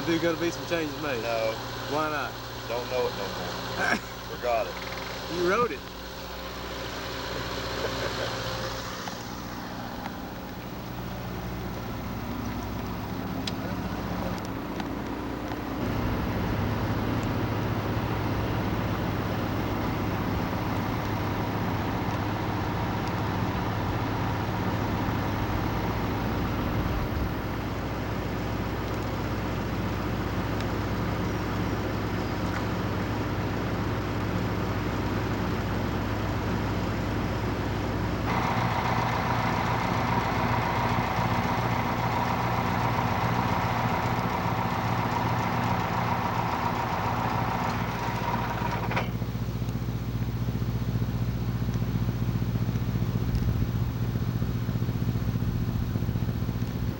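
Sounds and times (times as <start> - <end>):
bus engine idling: 0.0 - 56.9
high whining hum: 0.0 - 56.9.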